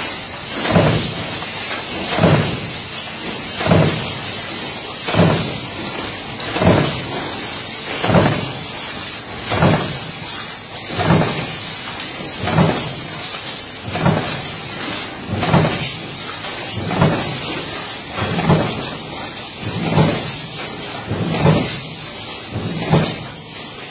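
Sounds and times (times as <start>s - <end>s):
continuous machine hum: 0.0s - 23.9s
stamping press strokes: 0.0s - 23.9s.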